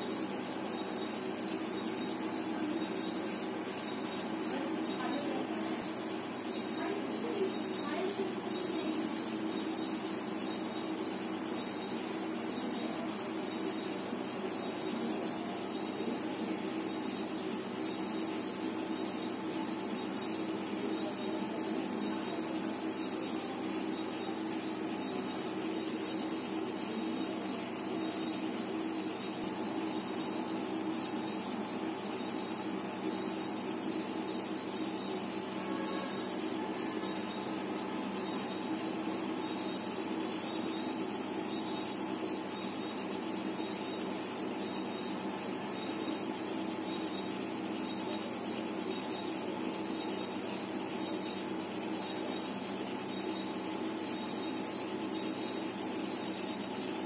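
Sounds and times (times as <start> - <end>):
night insects trilling: 0.0 - 57.0.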